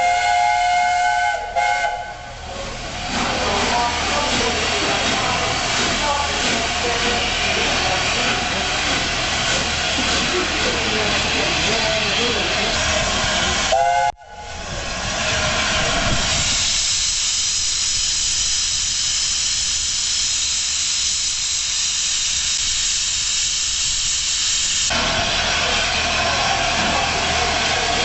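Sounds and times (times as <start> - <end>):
steam hissing: 0.0 - 28.0.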